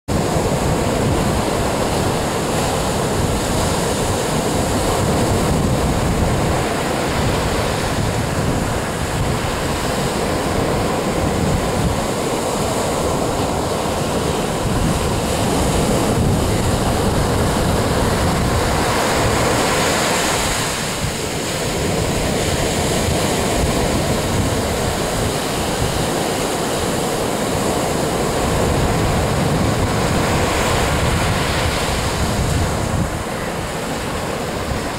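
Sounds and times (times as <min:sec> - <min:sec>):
ocean surf washing: 0:00.1 - 0:34.9
wind buffeting microphone: 0:00.1 - 0:34.9.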